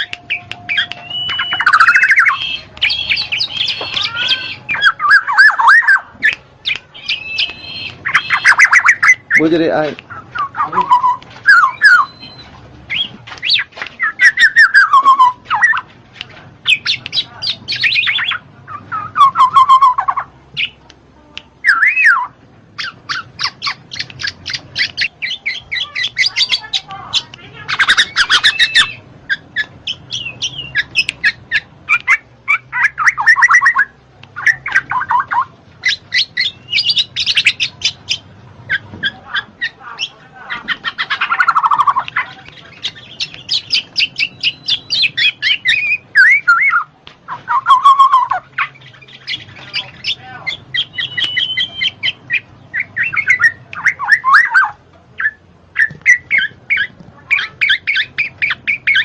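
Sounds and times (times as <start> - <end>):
bird calling: 0.0 - 15.9, 16.6 - 20.9, 21.6 - 59.0.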